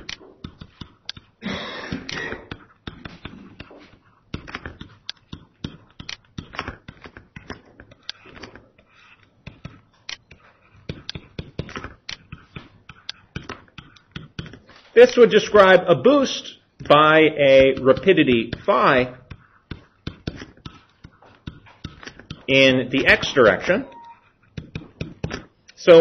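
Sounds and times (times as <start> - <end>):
stylus tapping on screen: 0.0 - 14.7, 16.8 - 25.8.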